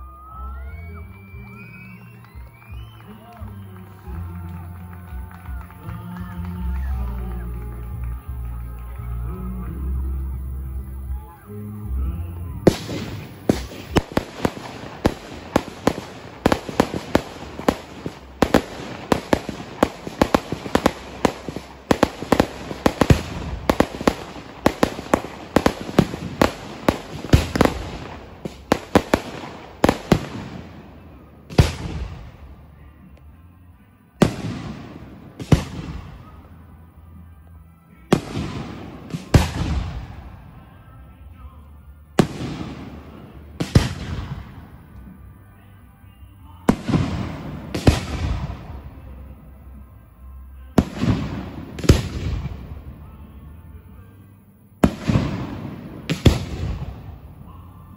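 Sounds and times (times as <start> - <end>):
fireworks bangs: 0.8 - 33.2, 34.1 - 57.9.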